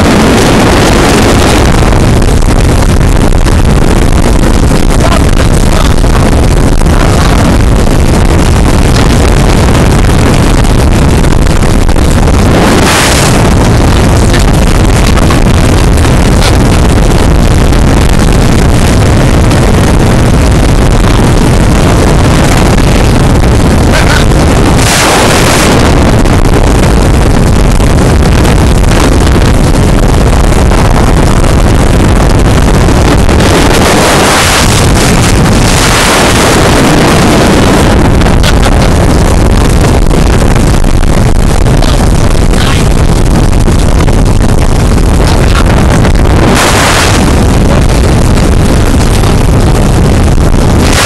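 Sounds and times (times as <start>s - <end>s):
boat engine: 0.0s - 51.0s
hull on choppy water: 0.0s - 51.0s
wind buffeting microphone: 0.0s - 51.0s.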